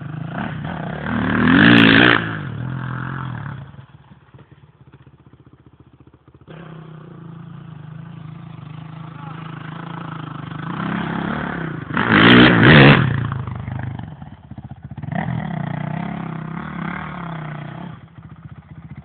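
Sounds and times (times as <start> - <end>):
motocross bike engines revving: 0.0 - 4.0, 6.4 - 19.0.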